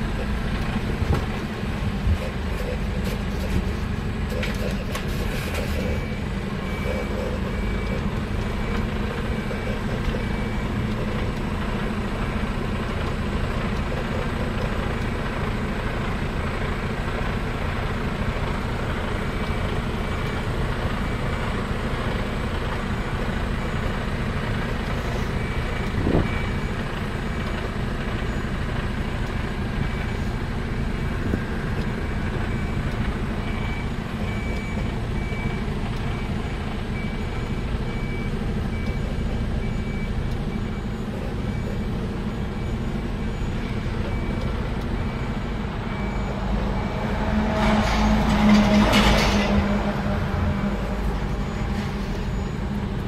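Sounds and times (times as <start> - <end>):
diesel truck engine rumbling: 0.0 - 53.0
reversing alarm beeping: 0.0 - 53.0.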